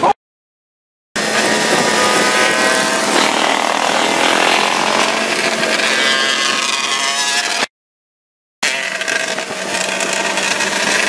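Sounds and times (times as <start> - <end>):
dirt bike engines at speed: 1.2 - 7.7, 8.6 - 11.0.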